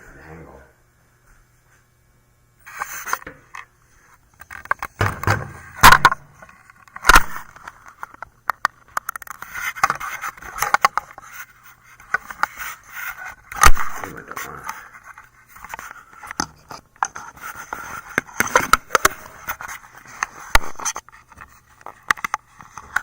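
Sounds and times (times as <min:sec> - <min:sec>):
camera handling rubbing and scraping: 0:02.7 - 0:05.0, 0:05.6 - 0:13.9, 0:14.7 - 0:23.0.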